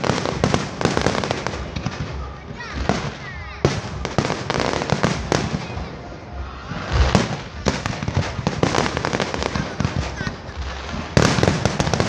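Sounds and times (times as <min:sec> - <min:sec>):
fireworks bursts and crackles: 0:00.0 - 0:12.0
loud fireworks booms: 0:00.0 - 0:12.0.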